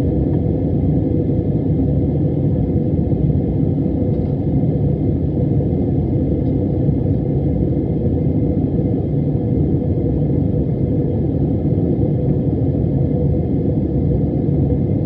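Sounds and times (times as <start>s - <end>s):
jet engine and airflow rumble: 0.0s - 15.0s.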